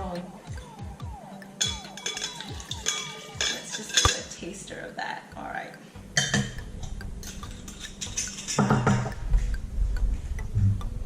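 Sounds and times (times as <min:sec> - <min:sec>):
background music with percussion: 0:00.0 - 0:11.0.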